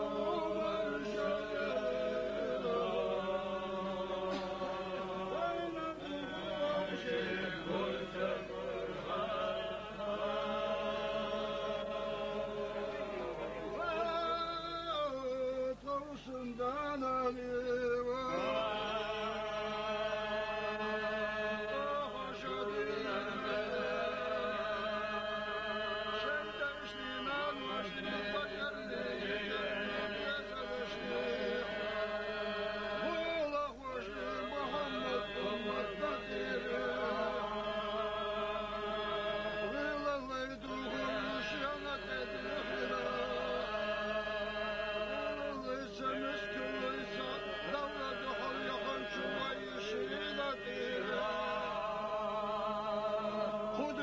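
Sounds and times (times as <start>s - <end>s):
men chanting: 0.0s - 17.4s, 18.2s - 54.0s.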